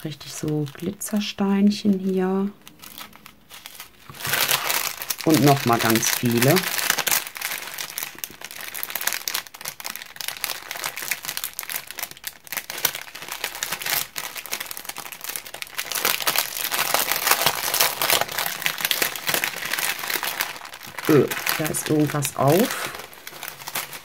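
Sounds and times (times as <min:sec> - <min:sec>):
plastic bags crinkling: 0:00.0 - 0:24.0.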